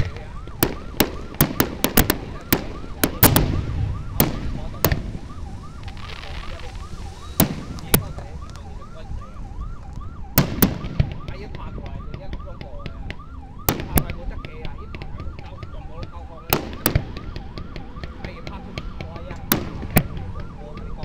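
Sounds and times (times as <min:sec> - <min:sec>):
fireworks bursting: 0:00.0 - 0:15.7, 0:16.4 - 0:20.6
warbling siren-like tone: 0:00.0 - 0:21.0.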